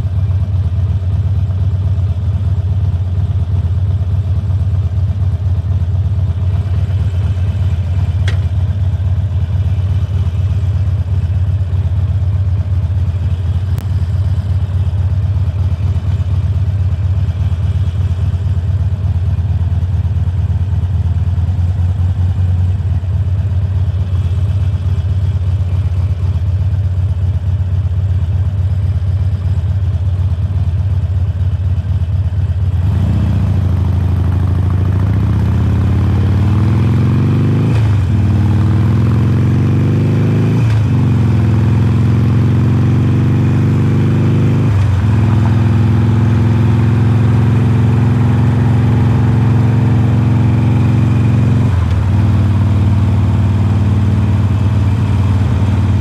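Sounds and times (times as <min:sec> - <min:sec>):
motorcycle exhaust shifting gears: 0:00.0 - 0:28.6, 0:31.5 - 0:56.0
motorcycle engine idling and revving: 0:00.0 - 0:56.0.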